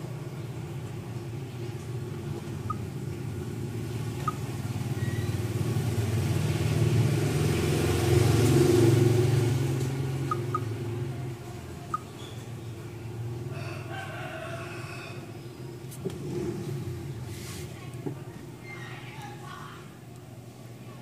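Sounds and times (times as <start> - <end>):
passing motor vehicle engine rumble: 0.0 - 21.0.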